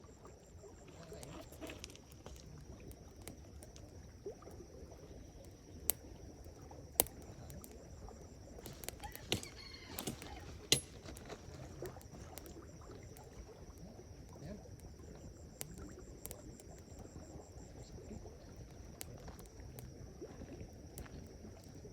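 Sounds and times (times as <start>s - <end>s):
campfire crackling: 0.0s - 21.9s
fire popping: 0.2s - 21.9s.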